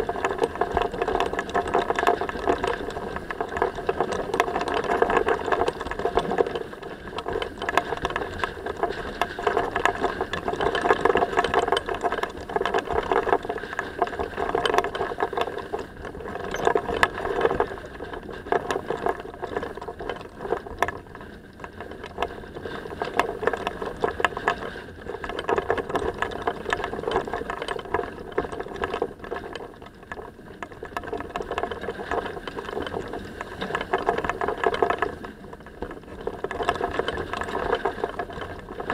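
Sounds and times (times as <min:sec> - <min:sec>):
dense continuous rattling: 0:00.0 - 0:38.9
water rushing along a hull: 0:00.0 - 0:38.9.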